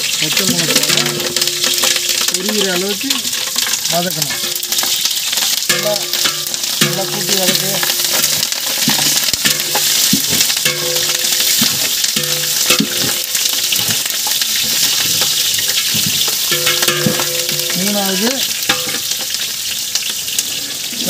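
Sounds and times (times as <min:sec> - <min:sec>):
spices sizzling in hot oil: 0:00.0 - 0:21.0
ladle knocking and scraping pot: 0:00.3 - 0:02.7, 0:03.3 - 0:19.5.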